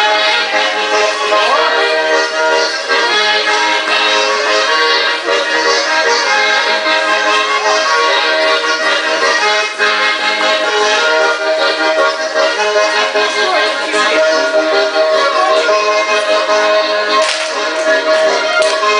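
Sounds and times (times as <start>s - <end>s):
traditional instrumental music: 0.0s - 18.9s.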